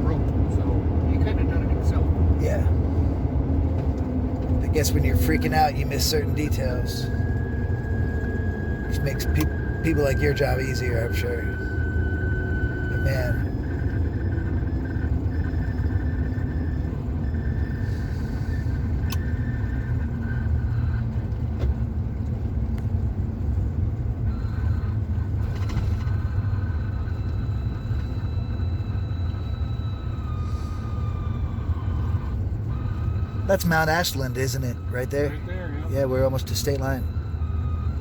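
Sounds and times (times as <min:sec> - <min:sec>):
engine drone: 0:00.0 - 0:38.0
road rumble: 0:00.0 - 0:38.0
faint thin whine: 0:04.7 - 0:21.9, 0:23.5 - 0:38.0.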